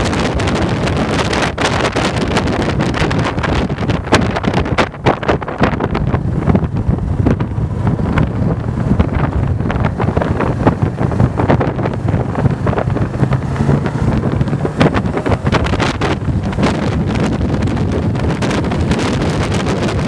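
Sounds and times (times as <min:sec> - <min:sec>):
motorcycle engine drone: 0:00.0 - 0:20.0
wind buffeting microphone: 0:00.0 - 0:20.0.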